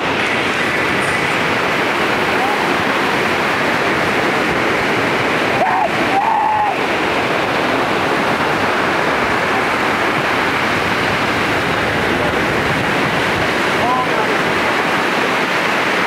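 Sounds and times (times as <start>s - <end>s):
ocean waves washing onto beach: 0.0s - 16.0s.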